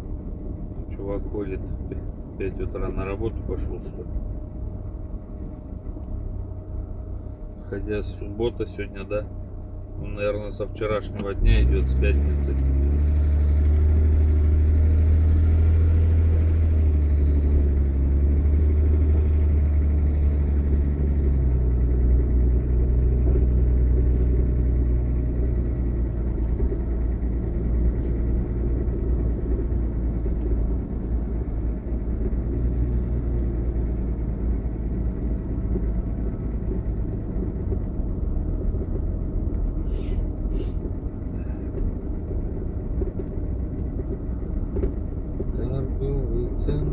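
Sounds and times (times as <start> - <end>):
vehicle engine and road drone: 0.0 - 46.9.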